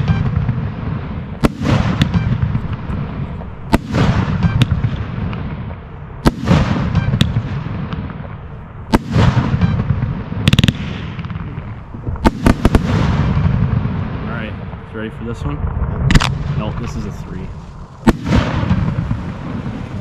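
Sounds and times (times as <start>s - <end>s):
fireworks bursting: 0.0s - 20.0s
rumble and crackle: 0.0s - 20.0s.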